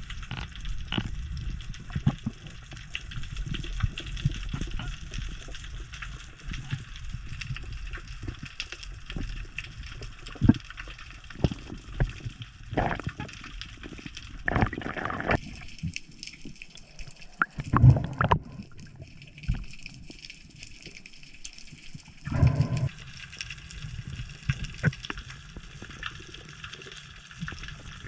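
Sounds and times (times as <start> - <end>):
sea water sloshing and gurgling: 0.0 - 28.0
water gushes: 0.0 - 28.0.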